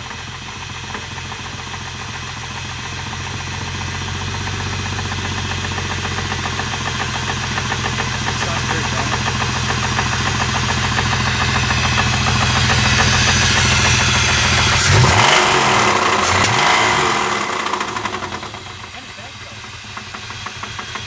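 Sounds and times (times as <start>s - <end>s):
engine running with rhythmic knock: 0.0s - 21.0s.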